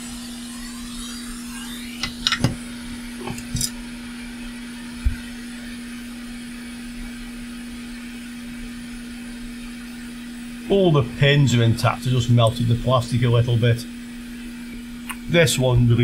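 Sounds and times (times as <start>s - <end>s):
hot air blower whirring: 0.0s - 16.0s
constant hum: 0.1s - 16.0s.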